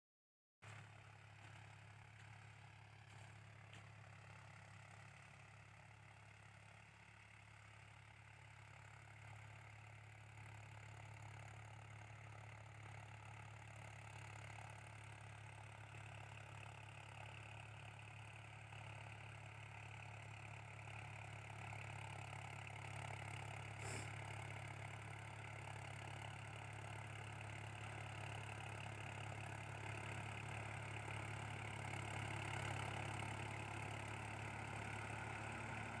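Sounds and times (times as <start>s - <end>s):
tractor diesel engine running: 0.6s - 36.0s.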